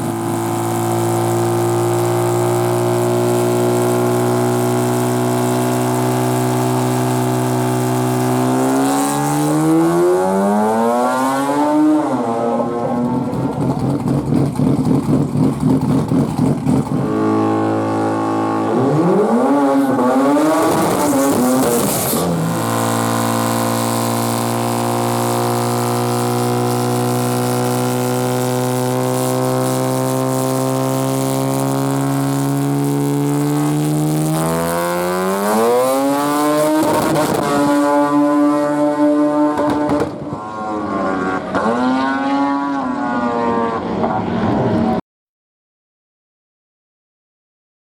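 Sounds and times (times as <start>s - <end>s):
rotary engine idling and revving: 0.0s - 45.0s.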